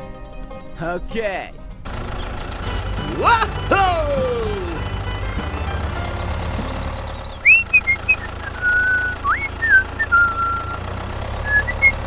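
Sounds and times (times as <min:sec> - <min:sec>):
whistled notes: 0:02.2 - 0:12.0.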